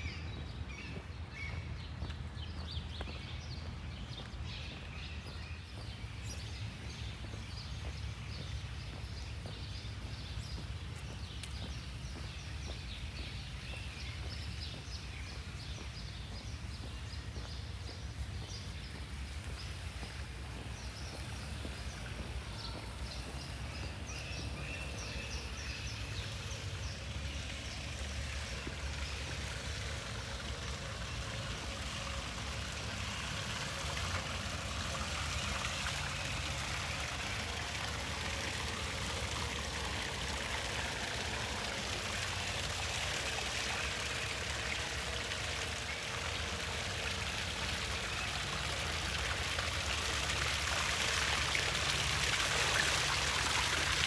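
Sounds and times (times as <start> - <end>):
running splashing water: 4.4 - 54.0.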